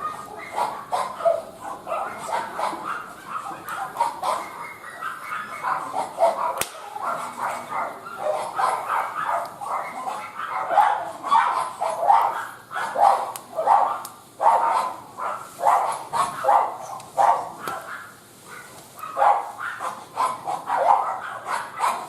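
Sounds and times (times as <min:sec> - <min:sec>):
dog barking: 0:00.0 - 0:22.0.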